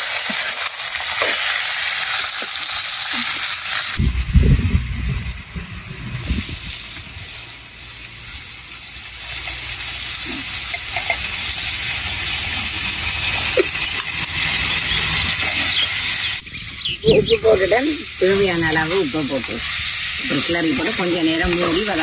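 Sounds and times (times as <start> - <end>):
food sizzling in a pot: 0.0 - 4.2, 5.3 - 22.0.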